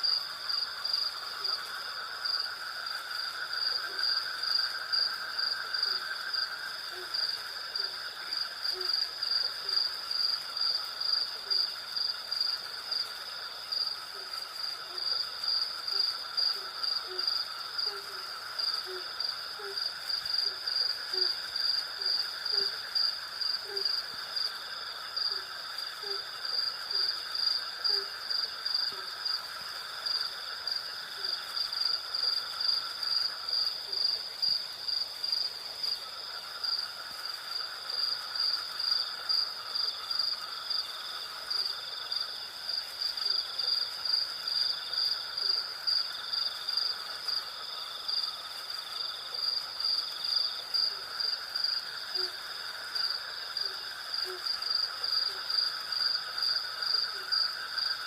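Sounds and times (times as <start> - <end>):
crickets chirping: 0.0 - 58.0
insect drone: 0.0 - 58.0.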